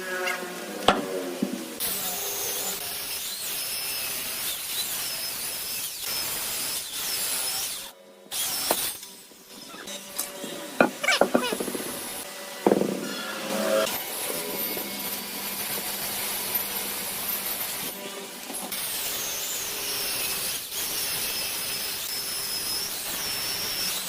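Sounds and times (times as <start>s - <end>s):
power tool working wood: 0.0s - 24.0s.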